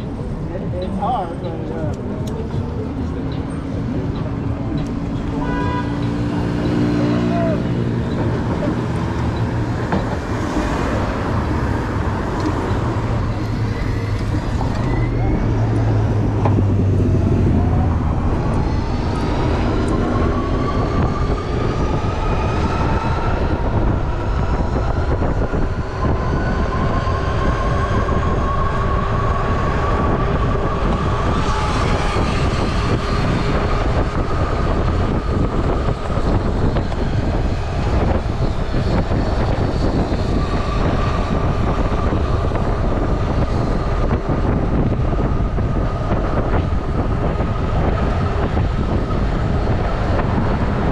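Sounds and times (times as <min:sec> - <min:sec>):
wind on microphone: 0:00.0 - 0:50.9.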